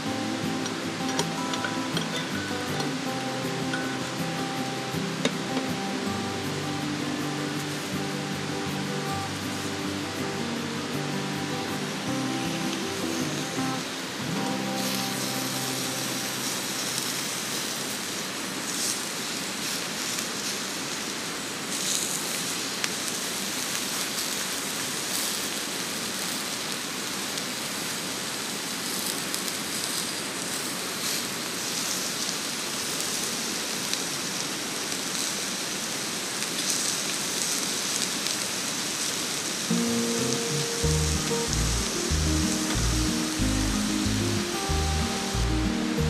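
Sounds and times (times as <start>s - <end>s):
meat sizzling on a griddle: 0.0s - 46.0s.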